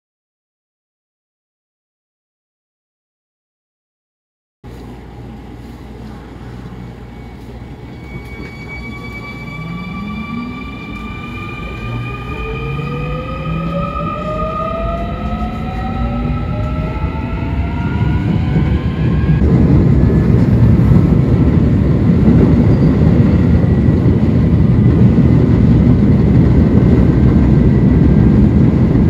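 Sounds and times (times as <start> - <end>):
low train running rumble: 4.6 - 29.0.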